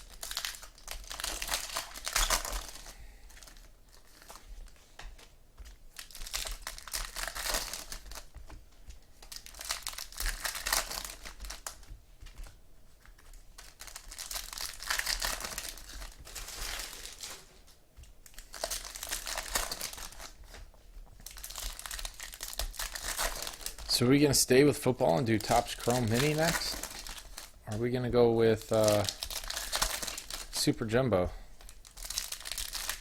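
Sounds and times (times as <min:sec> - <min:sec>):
foil wrappers torn and crinkled: 0:00.0 - 0:04.8, 0:05.8 - 0:08.4, 0:09.2 - 0:11.9, 0:13.1 - 0:20.5, 0:21.2 - 0:27.8, 0:28.5 - 0:31.0, 0:31.6 - 0:33.0.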